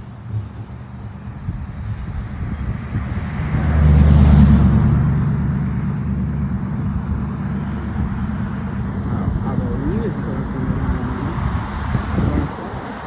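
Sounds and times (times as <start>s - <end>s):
road noise: 0.0s - 13.0s
motor vehicle passing: 1.4s - 13.0s.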